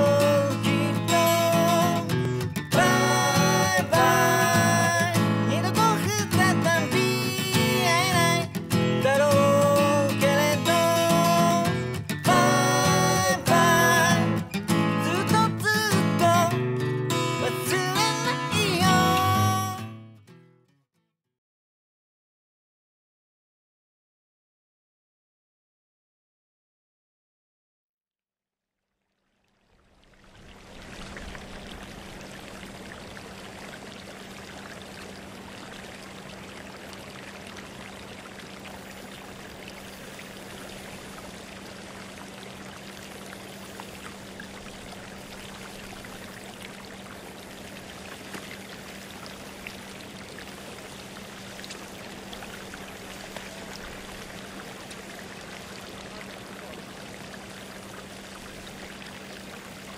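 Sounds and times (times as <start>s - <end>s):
rushing water-like noise: 0.0s - 19.5s, 29.5s - 59.9s.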